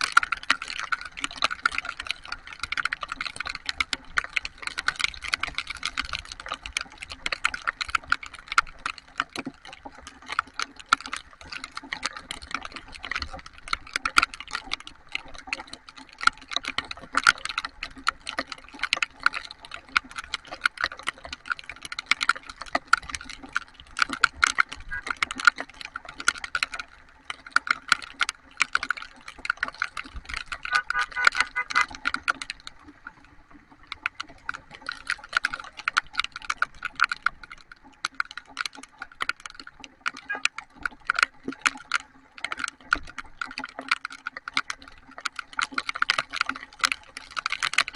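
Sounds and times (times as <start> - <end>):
rain tapping on hard surface: 0.0 - 47.9.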